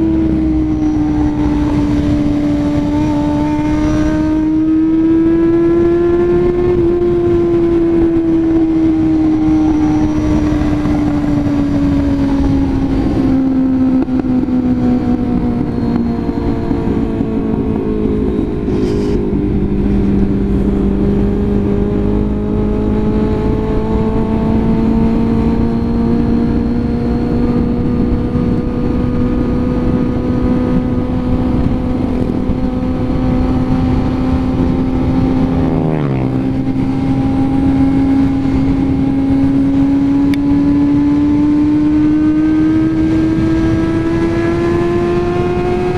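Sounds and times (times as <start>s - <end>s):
motorcycle engine pulling uphill: 0.0s - 45.9s
wind rush: 0.0s - 45.9s.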